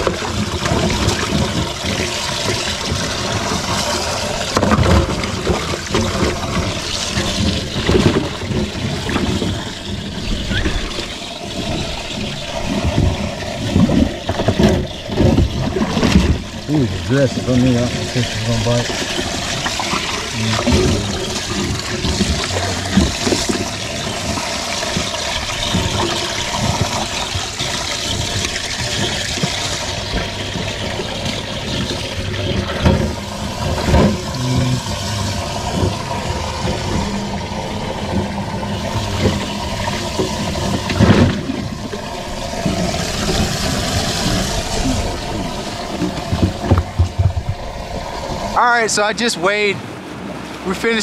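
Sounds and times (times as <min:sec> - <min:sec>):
fish splashing: 0:00.0 - 0:51.0
water jet gushing: 0:00.0 - 0:51.0.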